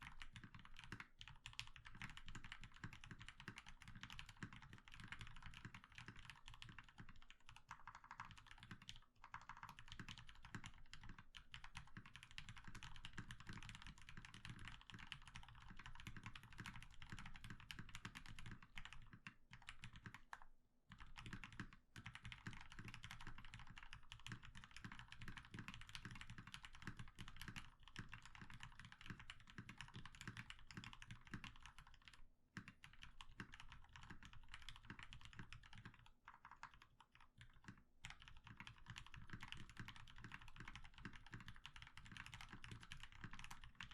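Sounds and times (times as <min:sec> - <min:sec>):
fast mechanical keyboard typing: 0:00.0 - 0:43.9.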